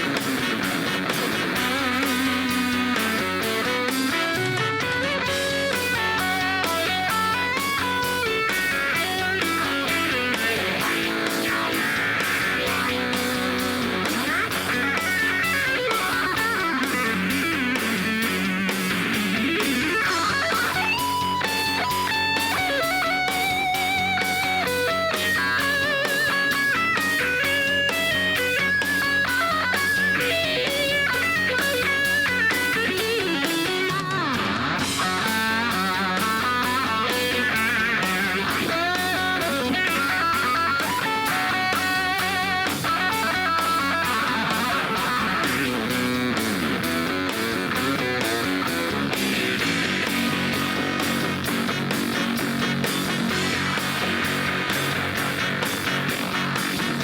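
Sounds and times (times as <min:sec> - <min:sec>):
bass: 0:00.0 - 0:57.0
electric guitar playing fast lines: 0:00.0 - 0:57.0
live rock band music: 0:00.0 - 0:57.0
steady drum beat: 0:00.0 - 0:57.0.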